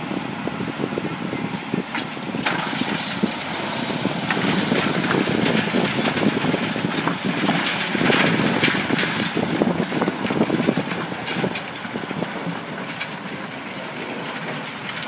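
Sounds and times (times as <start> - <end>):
tractor engine running: 0.0 - 15.0
rattles and knocks: 2.0 - 15.0.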